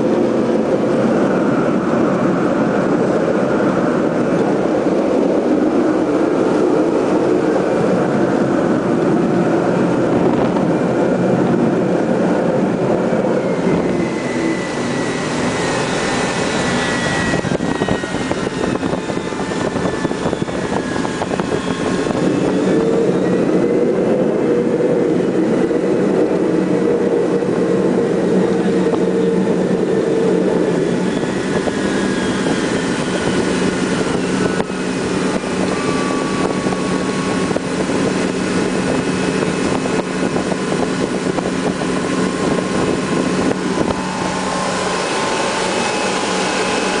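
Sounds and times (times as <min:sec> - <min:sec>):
jet engines roaring inside aircraft: 0:00.0 - 0:47.0.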